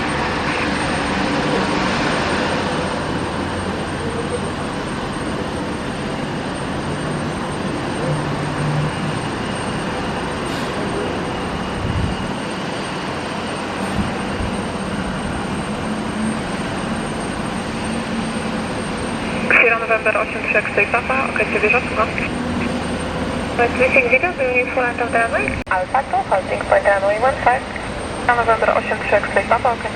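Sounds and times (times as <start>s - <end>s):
jet airliner engines roaring: 0.0s - 29.9s.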